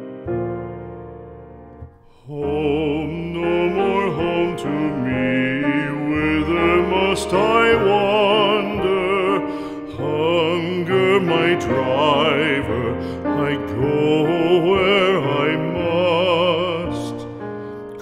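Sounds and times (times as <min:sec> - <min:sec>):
piano accompaniment: 0:00.0 - 0:18.0.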